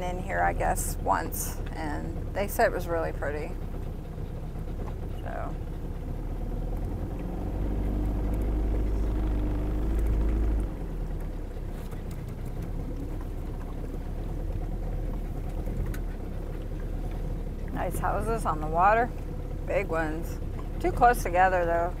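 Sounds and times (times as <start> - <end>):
small boat motor running: 0.0 - 22.0.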